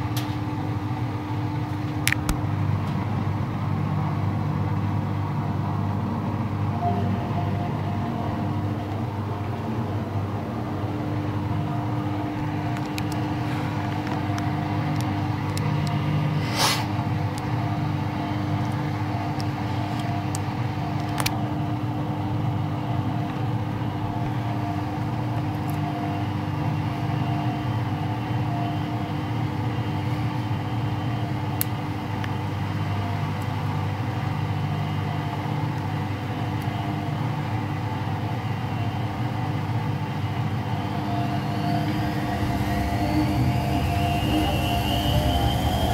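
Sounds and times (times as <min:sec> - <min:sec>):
washing machine running: 0:00.0 - 0:16.4, 0:17.0 - 0:45.9.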